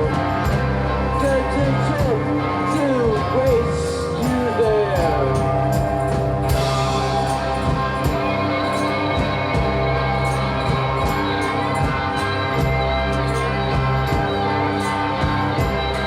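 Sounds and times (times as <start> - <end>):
droning held chords: 0.0 - 16.0
rock band playing: 0.0 - 16.0
slow drum beat: 0.0 - 16.0.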